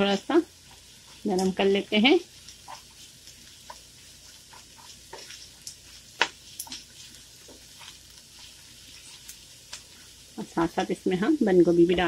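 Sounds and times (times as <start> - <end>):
wooden spatula scraping pan: 0.0 - 11.0
vegetables sizzling in a frying pan: 0.0 - 12.0.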